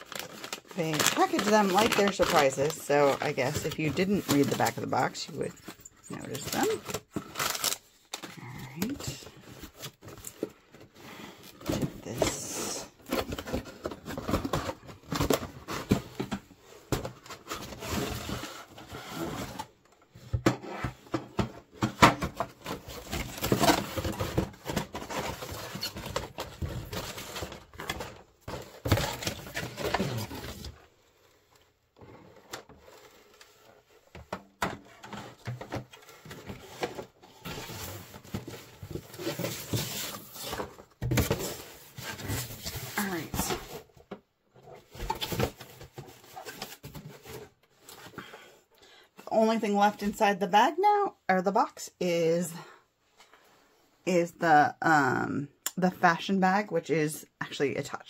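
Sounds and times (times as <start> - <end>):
cardboard packaging handled: 0.0 - 48.5.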